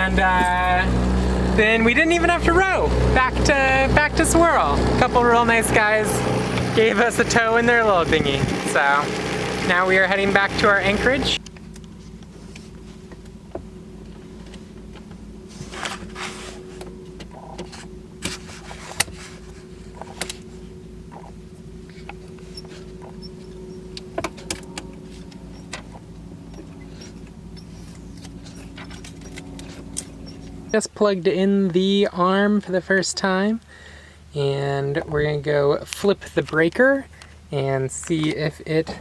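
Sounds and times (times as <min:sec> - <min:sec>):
boat engine humming: 0:00.0 - 0:39.0.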